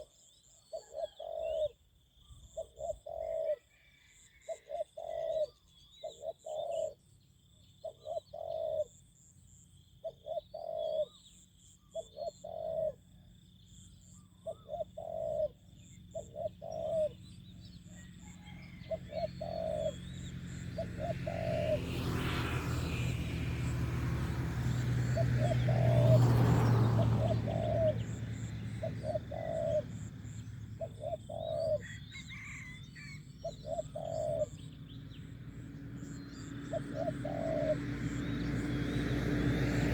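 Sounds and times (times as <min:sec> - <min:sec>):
doves cooing: 0:00.7 - 0:01.8, 0:02.5 - 0:07.0, 0:07.8 - 0:09.0, 0:10.0 - 0:11.2, 0:12.0 - 0:13.2, 0:14.5 - 0:39.9.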